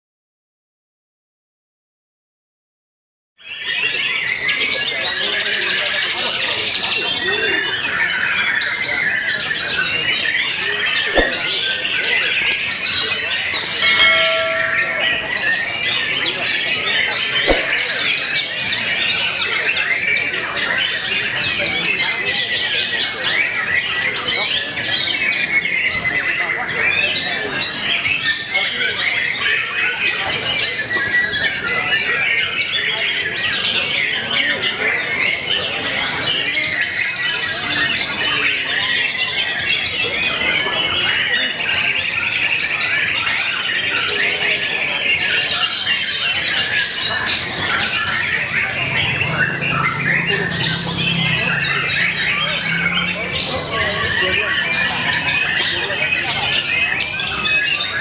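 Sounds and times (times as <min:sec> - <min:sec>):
birds singing whistles and trills: 0:03.4 - 0:58.0.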